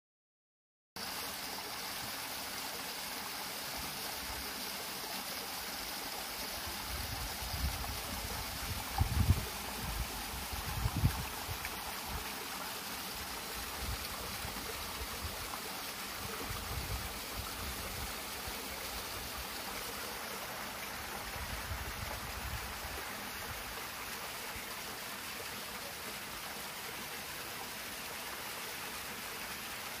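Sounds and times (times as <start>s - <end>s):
waterfall trickling and splashing: 1.0s - 30.0s.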